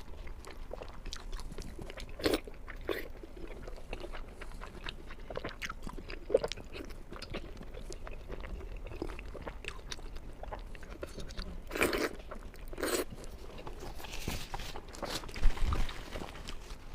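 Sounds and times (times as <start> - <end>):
person chewing crunchy food: 0.0 - 16.9.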